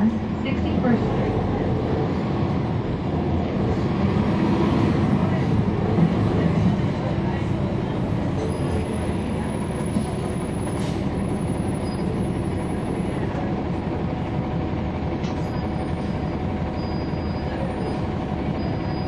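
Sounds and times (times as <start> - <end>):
bus diesel engine running: 0.0 - 19.0
road noise: 0.0 - 19.0.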